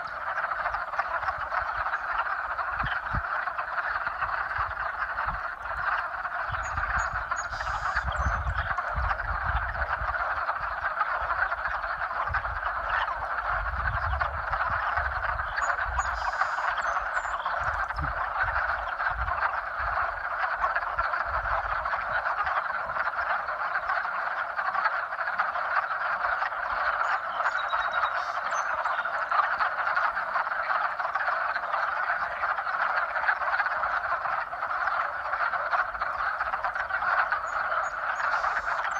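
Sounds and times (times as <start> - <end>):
chorus of frogs croaking: 0.0 - 38.9.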